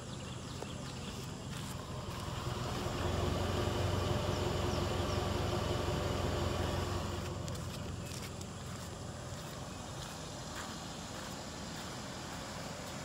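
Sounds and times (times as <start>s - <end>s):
pickup truck engine idling: 1.3s - 13.0s.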